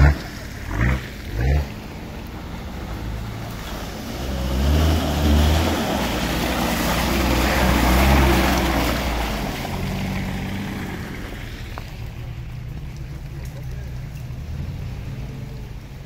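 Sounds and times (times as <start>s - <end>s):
off-road vehicle engine revving: 0.0s - 16.0s
wheels splashing through water: 0.0s - 16.0s.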